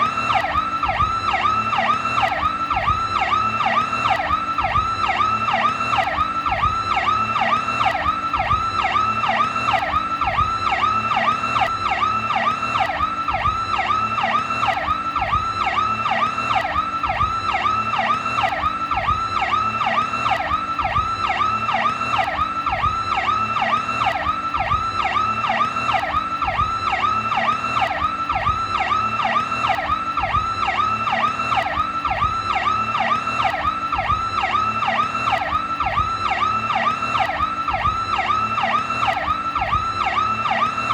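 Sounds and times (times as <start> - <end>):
police siren wailing: 0.0 - 40.9.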